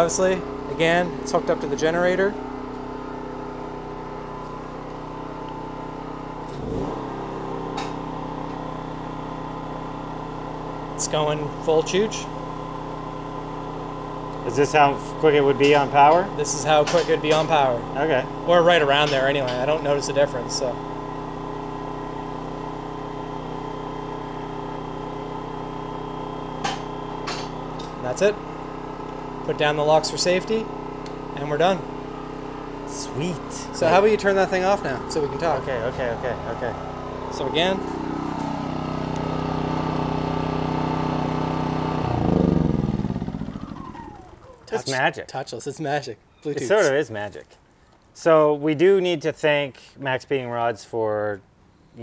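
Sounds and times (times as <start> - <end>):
electric hydraulic pump running: 0.0 - 45.1.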